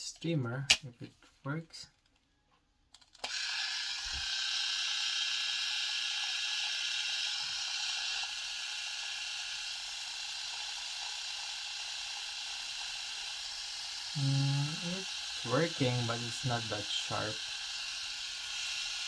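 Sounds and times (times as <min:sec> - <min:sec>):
electric shaver whirring: 0:03.2 - 0:19.0.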